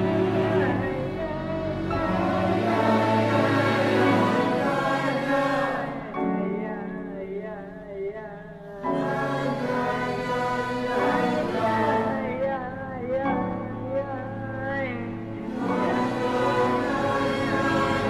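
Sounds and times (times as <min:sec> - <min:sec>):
choir and orchestra sustained chords: 0:00.0 - 0:07.8, 0:08.7 - 0:18.0.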